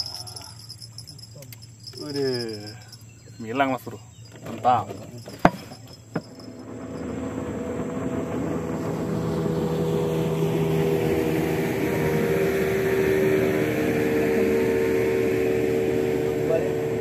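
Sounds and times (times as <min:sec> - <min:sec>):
motorboat engine hum: 0:00.0 - 0:17.0.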